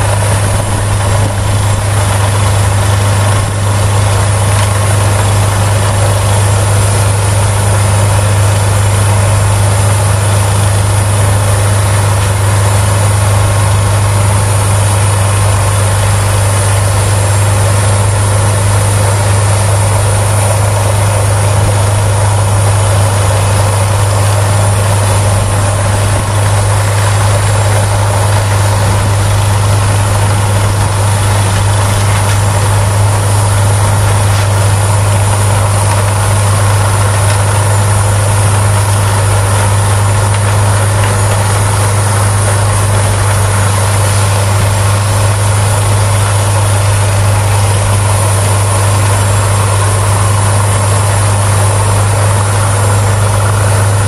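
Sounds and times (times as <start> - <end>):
wood chipper droning: 0.0 - 54.0.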